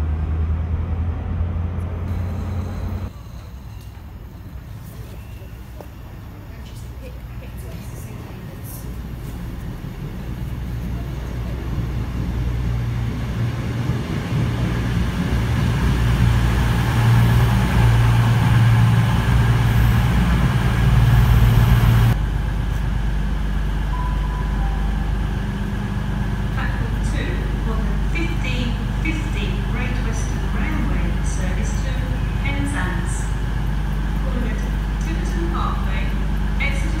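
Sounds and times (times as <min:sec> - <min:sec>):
train wheels rumbling on rails: 0:00.0 - 0:24.0, 0:24.6 - 0:37.0
diesel train engines: 0:00.0 - 0:37.0.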